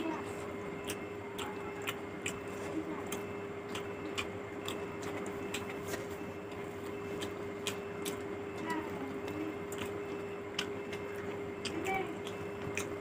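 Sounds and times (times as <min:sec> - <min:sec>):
fingers kneading food wet clicks: 0:00.0 - 0:13.0
steady hum: 0:00.0 - 0:13.0.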